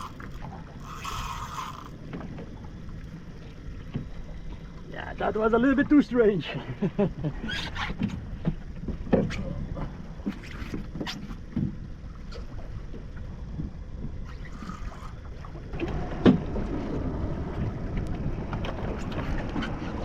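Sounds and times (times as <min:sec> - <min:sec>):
boat engine rumble: 0:00.0 - 0:20.0
water and wind noise: 0:00.0 - 0:20.0.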